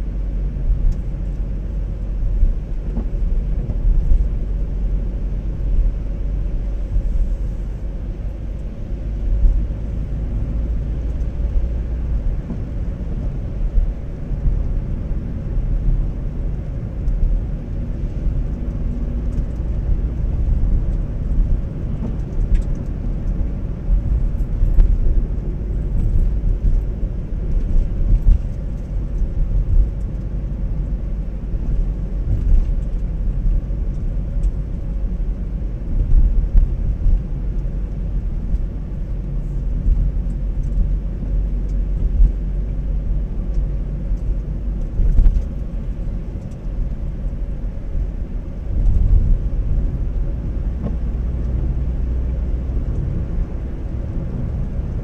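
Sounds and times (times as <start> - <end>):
car engine and road rumble: 0.0 - 55.0
tyre noise on wet road: 0.0 - 55.0.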